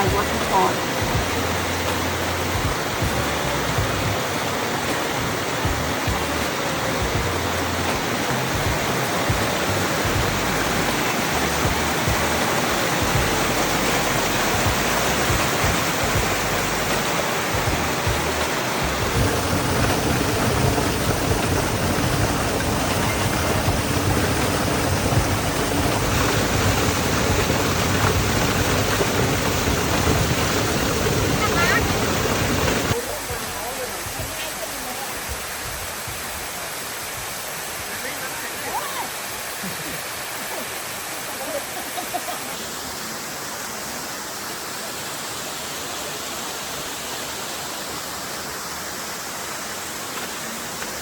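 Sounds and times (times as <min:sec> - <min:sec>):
waterfall rushing and splashing: 0:00.0 - 0:51.0.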